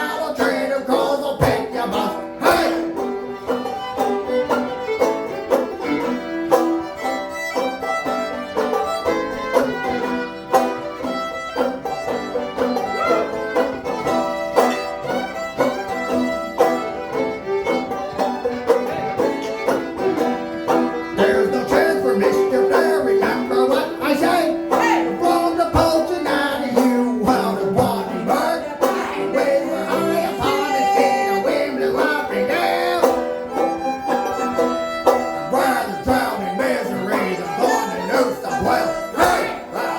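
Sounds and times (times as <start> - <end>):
banjo picking quick notes: 0.0 - 39.9
string band playing folk music: 0.0 - 39.9
fiddle holding long tones: 1.7 - 39.9.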